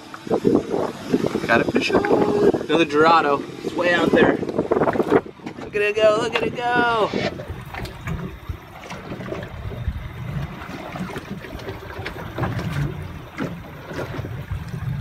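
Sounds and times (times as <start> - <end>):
steady low rumble: 0.0 - 15.0
water sloshing against boat hull: 0.0 - 15.0.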